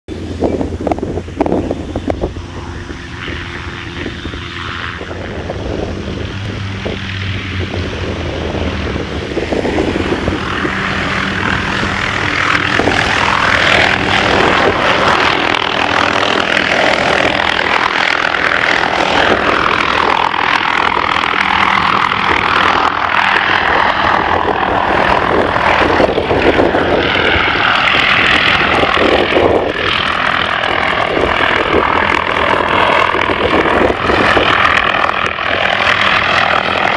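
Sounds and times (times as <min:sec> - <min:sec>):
helicopter rotor and turbine: 0:00.1 - 0:36.9.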